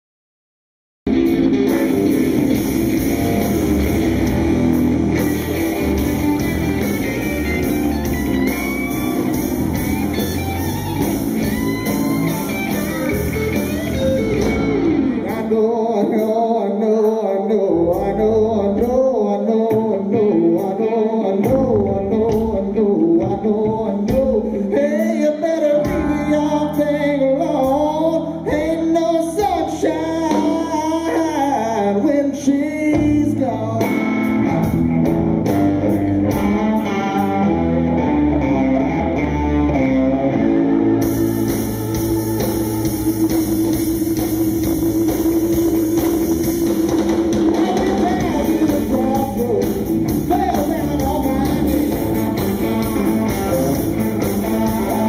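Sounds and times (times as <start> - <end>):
live rock band playing: 1.1 - 55.0
man singing lead: 5.3 - 34.8, 35.5 - 55.0.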